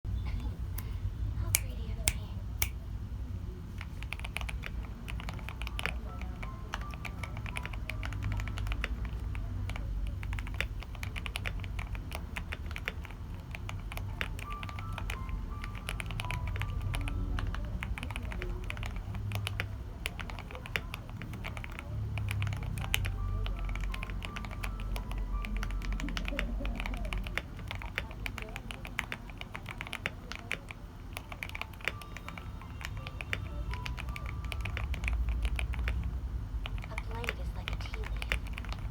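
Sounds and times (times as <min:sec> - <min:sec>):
mechanical keyboard typing: 0:03.7 - 0:38.9.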